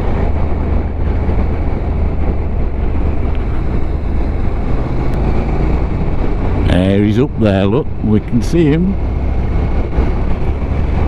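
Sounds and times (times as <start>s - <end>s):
road noise: 0.0s - 11.0s
wind: 0.0s - 11.0s.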